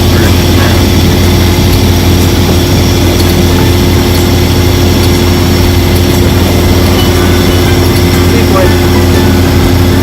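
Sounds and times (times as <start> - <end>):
engine droning steadily: 0.0 - 10.0.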